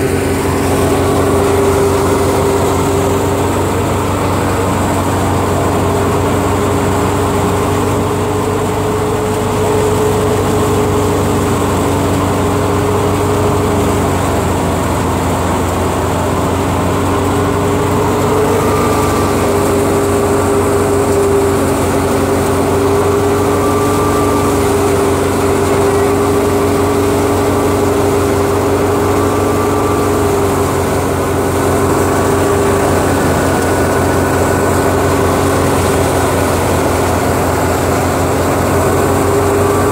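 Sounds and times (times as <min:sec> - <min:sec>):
wheat thresher running: 0:00.0 - 0:39.9.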